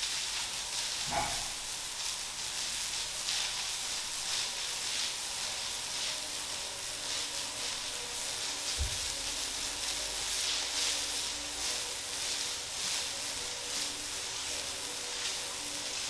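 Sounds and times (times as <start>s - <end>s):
soap suds fizzing: 0.0s - 16.0s.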